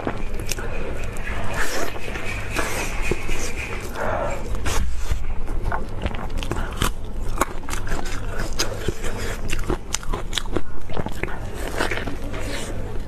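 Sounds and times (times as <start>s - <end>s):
biting and chewing crusty bun: 0.0s - 13.0s.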